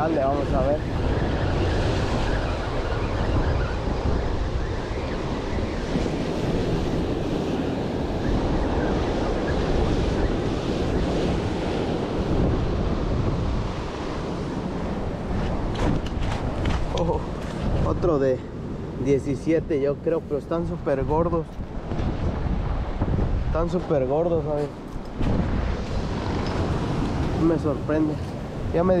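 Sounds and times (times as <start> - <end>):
ocean surf washing onto beach: 0.0 - 29.0
wind buffeting microphone: 0.0 - 29.0.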